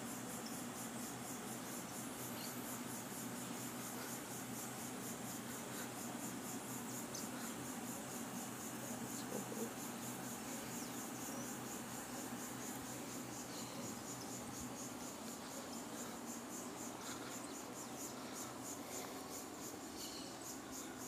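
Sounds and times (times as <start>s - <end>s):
faint low hum: 0.0s - 21.0s
insects trilling: 0.0s - 21.0s.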